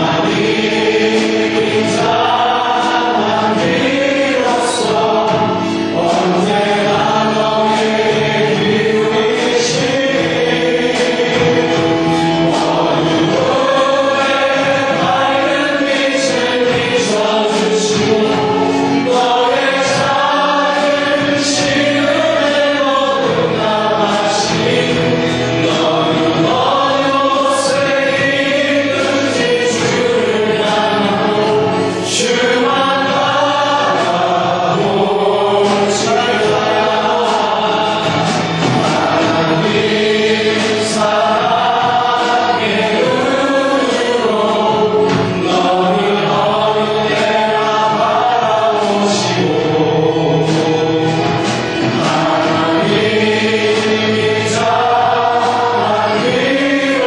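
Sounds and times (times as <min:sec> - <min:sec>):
group singing worship song: 0:00.0 - 0:57.0
live band playing: 0:00.0 - 0:57.0.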